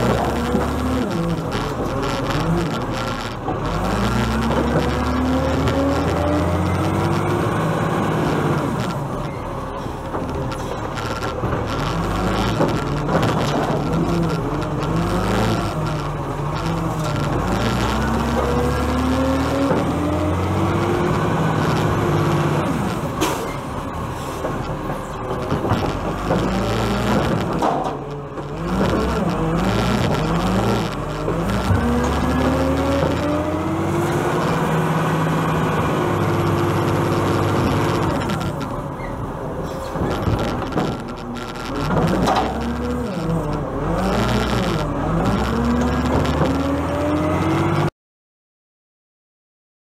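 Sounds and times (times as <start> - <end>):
garbage truck diesel engine: 0.0 - 47.9.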